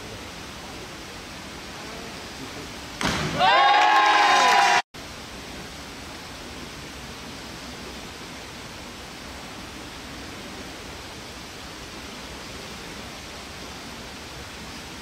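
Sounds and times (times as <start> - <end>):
pool hall background hiss: 0.0 - 15.0.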